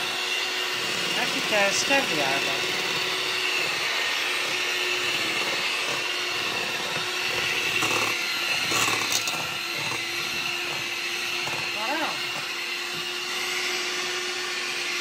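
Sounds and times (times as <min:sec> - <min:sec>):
electric hand mixer whine: 0:00.0 - 0:15.0.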